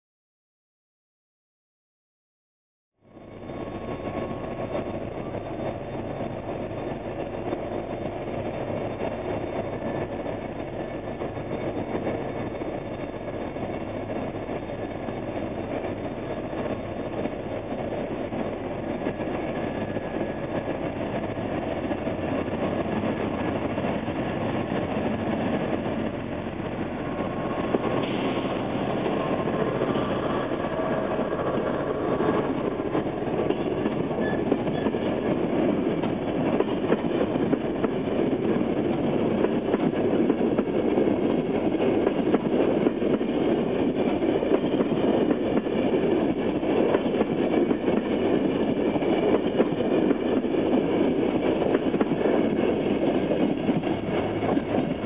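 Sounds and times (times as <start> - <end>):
diesel locomotive engine: 3.0 - 55.0
train carriages rolling past: 3.0 - 55.0.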